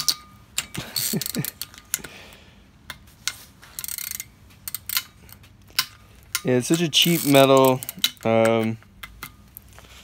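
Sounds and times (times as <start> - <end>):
ratchet clicking: 0.0 - 2.1, 2.9 - 9.5.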